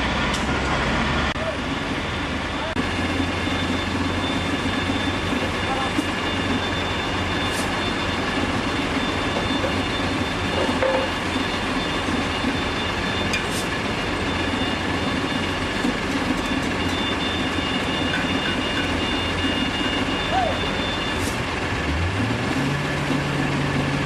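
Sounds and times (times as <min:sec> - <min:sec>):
heavy machinery whining rumble: 0:00.0 - 0:24.0.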